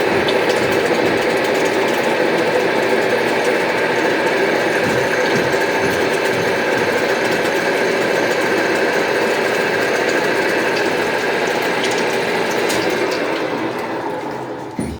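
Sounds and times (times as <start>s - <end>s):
metal lathe running: 0.0s - 14.9s.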